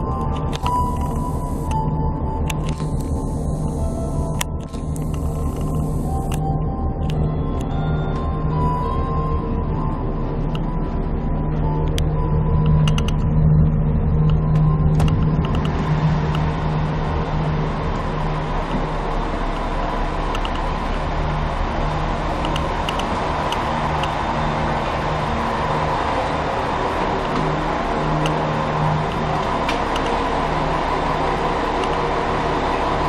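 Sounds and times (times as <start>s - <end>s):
diesel railcar engine hum: 0.0s - 33.0s
rushing noise: 0.0s - 33.0s.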